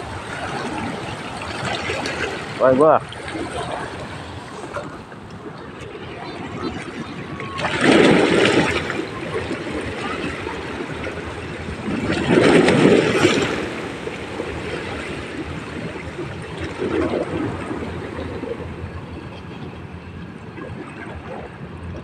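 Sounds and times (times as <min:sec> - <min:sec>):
waves washing on shore: 0:00.0 - 0:22.0.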